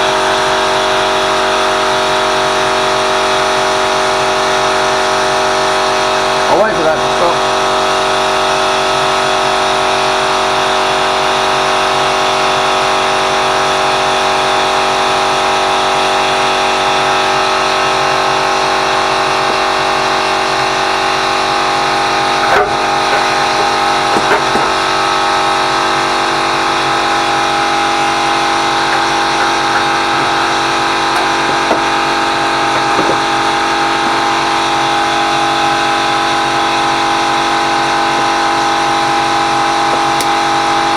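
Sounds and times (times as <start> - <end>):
loud mechanical hum: 0.0 - 40.9.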